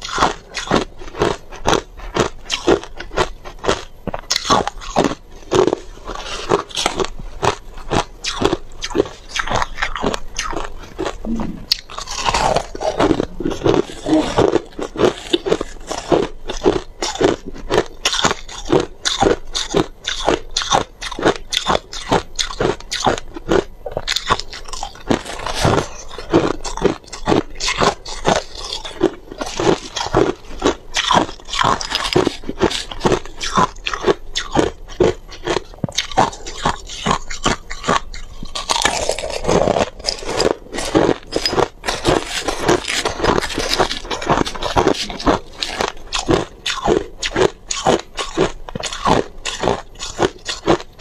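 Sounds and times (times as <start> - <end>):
crushed ice being chewed: 0.0 - 51.0.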